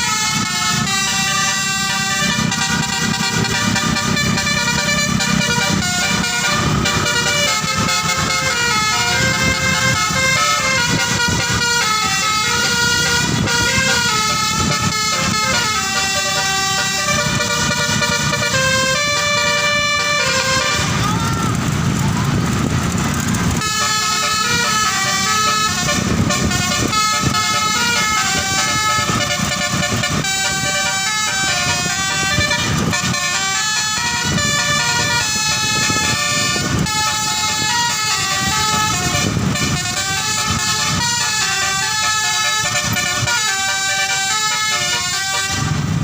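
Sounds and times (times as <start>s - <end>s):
multi-tone musical bus horn: 0.0s - 22.4s, 23.5s - 46.0s.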